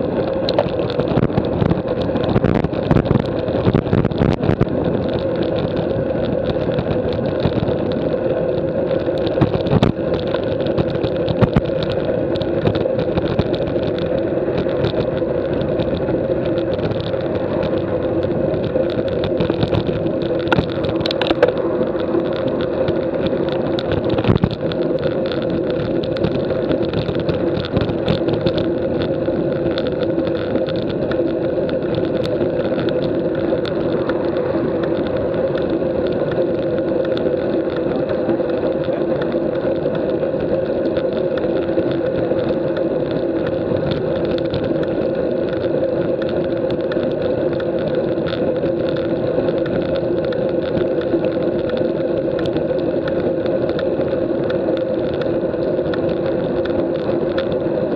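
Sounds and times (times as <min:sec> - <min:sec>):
road noise: 0:00.0 - 0:57.9
wind: 0:00.0 - 0:57.9.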